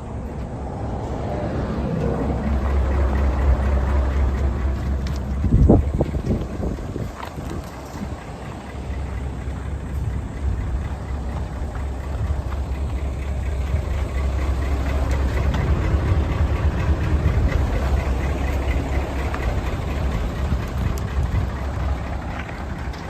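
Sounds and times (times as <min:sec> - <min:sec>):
diesel truck engine clatter: 0:00.0 - 0:23.0.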